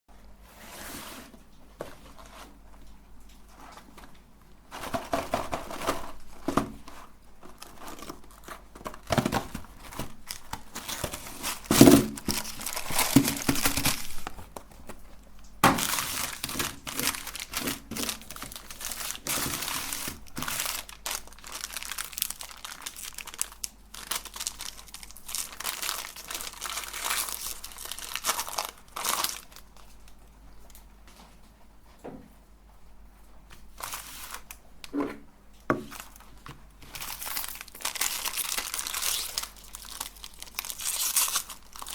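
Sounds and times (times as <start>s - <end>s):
wrapper crinkling and tearing: 3.7s - 30.2s, 33.7s - 35.0s, 35.8s - 41.9s.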